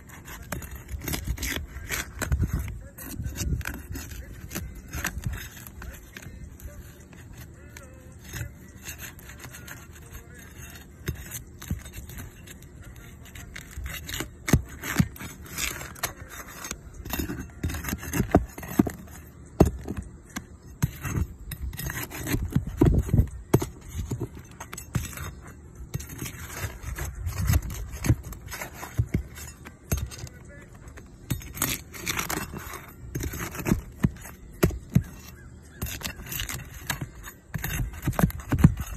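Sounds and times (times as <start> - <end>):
pry bar scraping shingles: 0.0 - 38.9.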